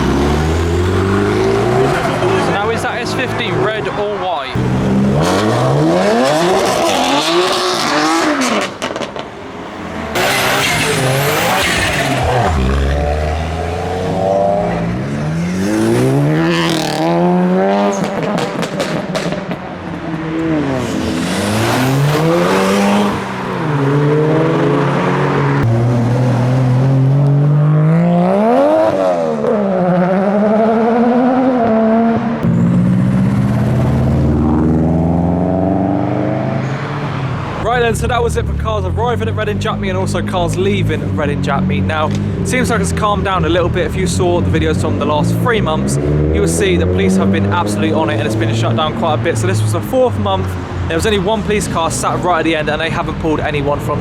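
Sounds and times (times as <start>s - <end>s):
car engines revving: 0.0s - 54.0s
exhaust and tyre noise: 0.0s - 54.0s.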